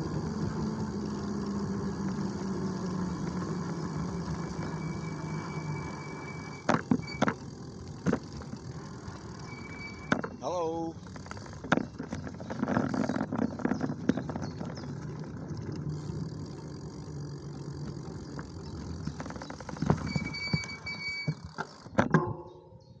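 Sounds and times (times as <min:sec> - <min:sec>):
bicycle tyre and road noise: 0:00.0 - 0:22.1
bicycle rattling over bumps: 0:00.0 - 0:22.7.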